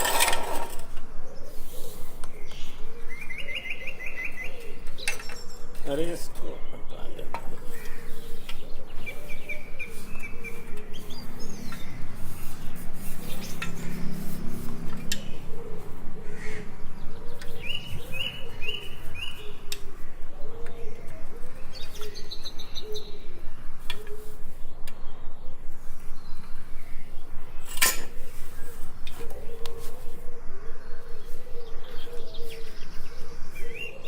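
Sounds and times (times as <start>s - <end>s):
steady pulsing background noise: 0.0s - 34.0s
small birds chirping: 0.9s - 34.0s.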